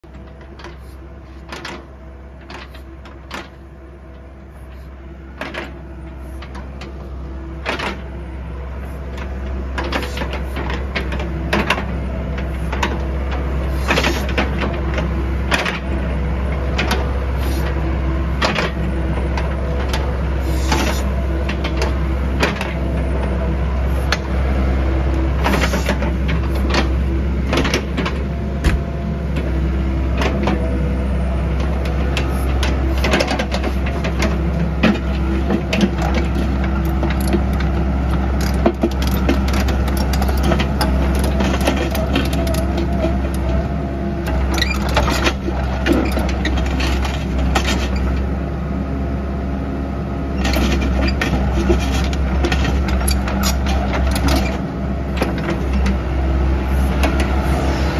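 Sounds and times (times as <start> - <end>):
diesel engine running: 0.0 - 57.9
hydraulics working: 0.1 - 57.9.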